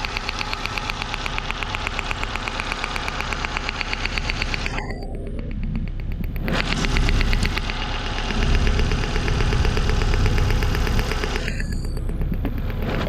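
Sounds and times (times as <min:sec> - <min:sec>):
car engine idling with misfire: 0:00.0 - 0:13.0
rapid sharp electrical ticks: 0:00.0 - 0:13.0.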